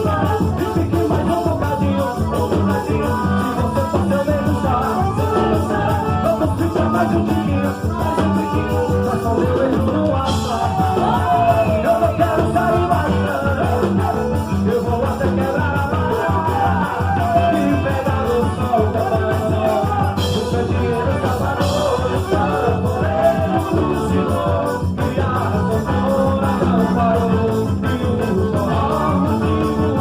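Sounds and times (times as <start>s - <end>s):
band playing dance music: 0.0s - 30.0s
person singing: 0.0s - 30.0s.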